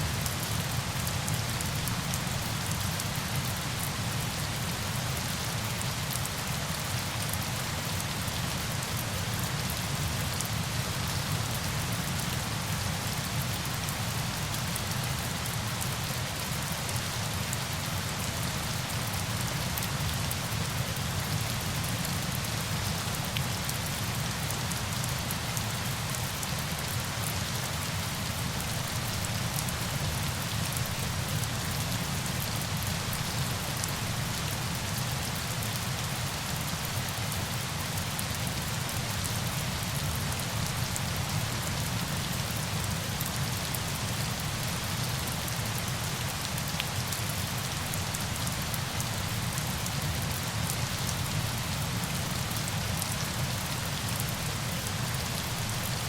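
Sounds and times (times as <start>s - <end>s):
rush of falling water: 0.0s - 56.0s.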